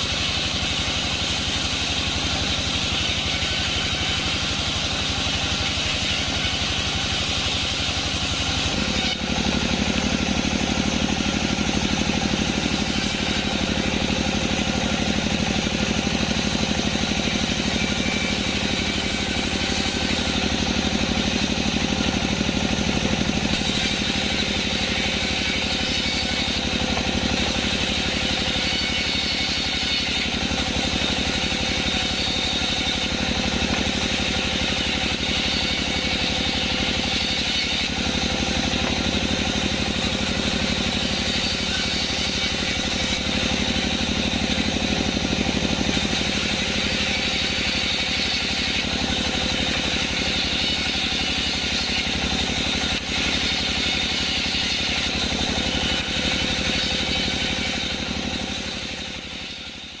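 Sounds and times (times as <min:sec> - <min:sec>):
high-pitched saw whine: 0:00.0 - 1:00.0
sawmill engine drone: 0:00.0 - 1:00.0.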